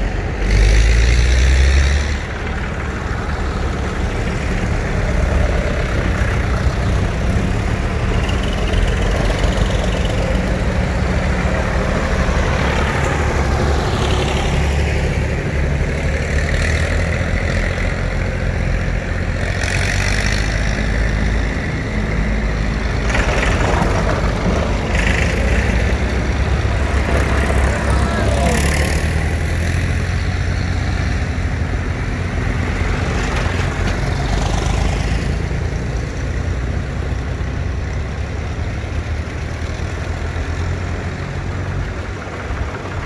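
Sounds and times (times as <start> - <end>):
tractor engines running: 0.0 - 43.0.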